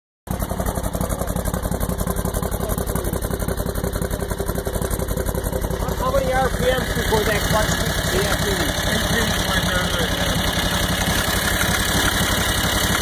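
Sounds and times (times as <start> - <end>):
engine running at tailpipe: 0.3 - 13.0.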